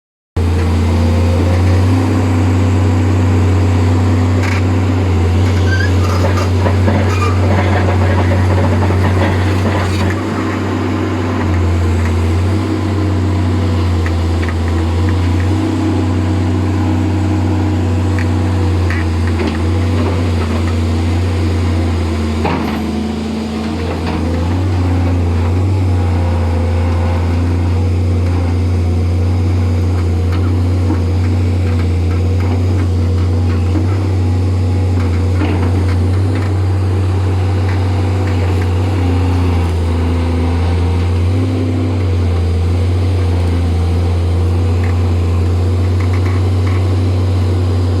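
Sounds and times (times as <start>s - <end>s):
excavator diesel engine droning: 0.4s - 48.0s.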